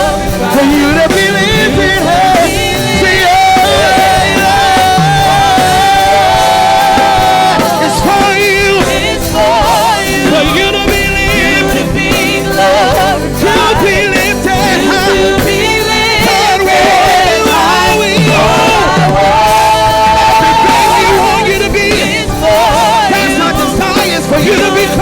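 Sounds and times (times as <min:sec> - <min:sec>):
voices singing runs: 0:00.0 - 0:25.0.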